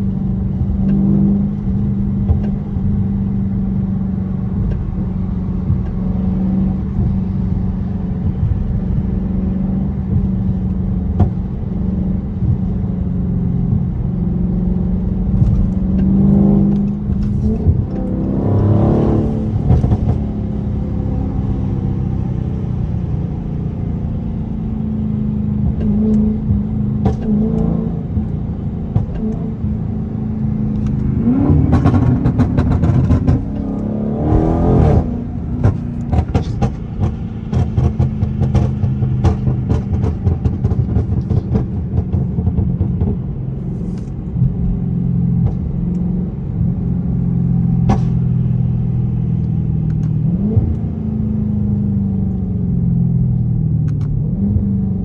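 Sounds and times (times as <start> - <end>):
car engine revving: 0.0 - 55.0
exhaust crackles and pops: 0.0 - 55.0.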